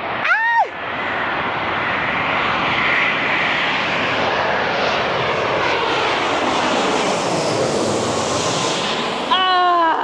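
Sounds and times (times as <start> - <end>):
jet airliner passing overhead: 0.0 - 10.0.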